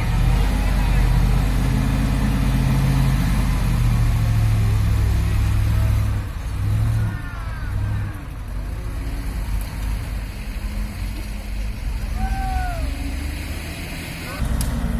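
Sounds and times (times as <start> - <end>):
truck diesel engine running: 0.0 - 14.9.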